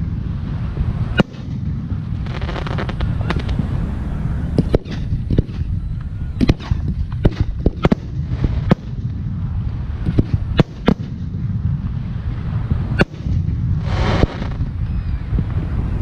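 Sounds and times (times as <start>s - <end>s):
firework bangs: 0.0s - 5.8s, 6.4s - 14.8s
steady low rumble: 0.0s - 16.0s.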